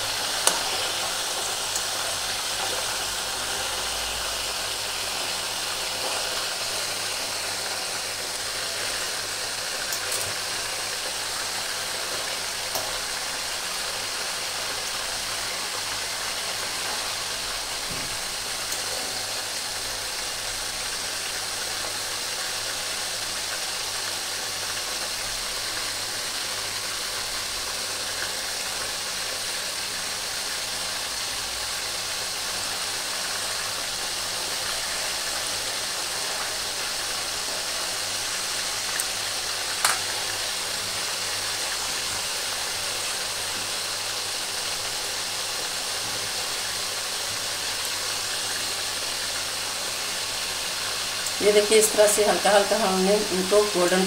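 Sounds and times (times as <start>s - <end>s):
meat sizzling in oil: 0.0s - 54.0s.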